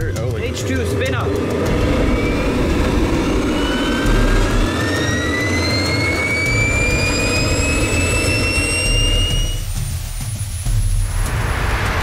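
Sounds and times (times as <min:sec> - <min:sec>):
jet turbine spooling up: 0:00.0 - 0:12.0
low rumble: 0:00.0 - 0:12.0.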